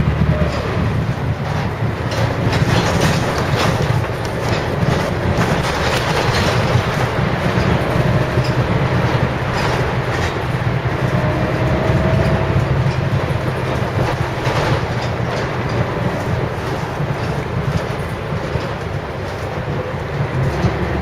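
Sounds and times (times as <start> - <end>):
bus diesel engine droning: 0.0 - 21.0
loose rattles and clicks: 0.5 - 21.0.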